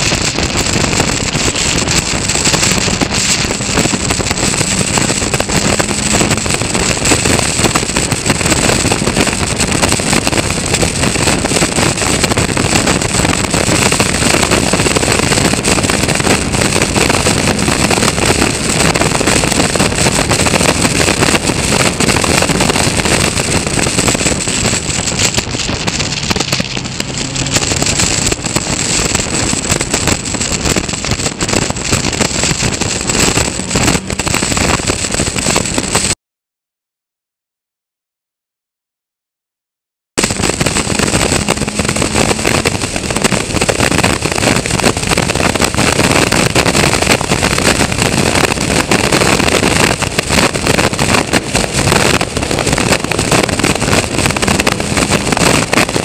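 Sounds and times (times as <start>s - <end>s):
race car engine at high revs: 0.0s - 36.2s, 40.2s - 56.0s
wind rush on microphone: 0.0s - 36.2s, 40.2s - 56.0s.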